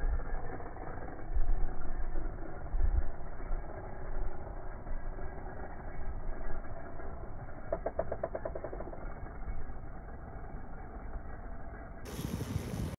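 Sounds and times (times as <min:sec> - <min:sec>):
rapid engine pulses: 0:00.0 - 0:12.9
small nitro engine running: 0:00.0 - 0:12.9.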